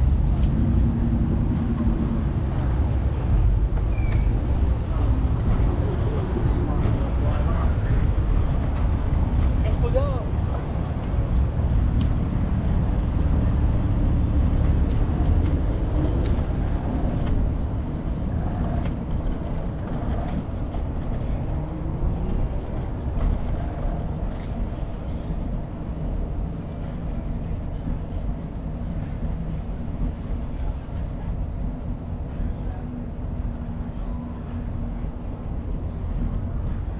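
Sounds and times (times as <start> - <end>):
wind and road rumble: 0.0 - 36.9.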